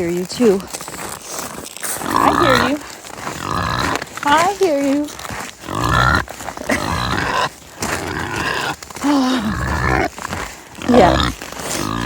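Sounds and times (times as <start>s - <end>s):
pigs grunting and squealing: 2.0s - 12.0s.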